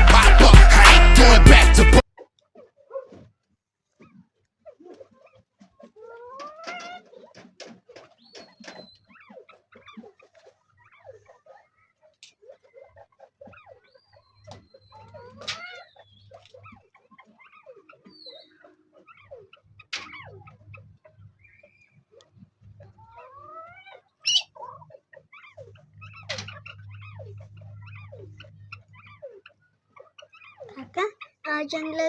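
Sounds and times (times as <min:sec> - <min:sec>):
partridge clucking and chirping: 0:03.9 - 0:32.0.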